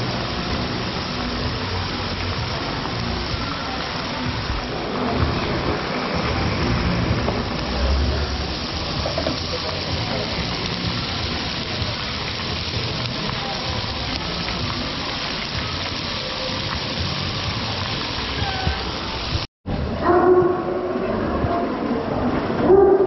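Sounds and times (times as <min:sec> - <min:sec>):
meat sizzling on grill: 0:00.0 - 0:19.5.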